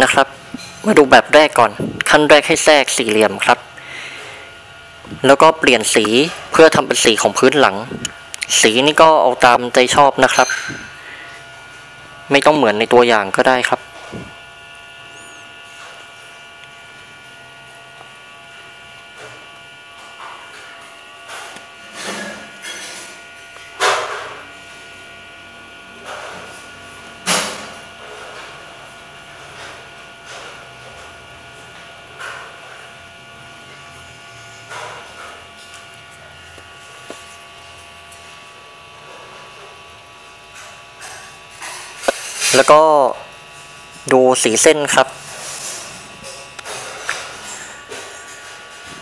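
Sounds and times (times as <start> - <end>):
electrical buzz and hum: 0.0 - 49.0.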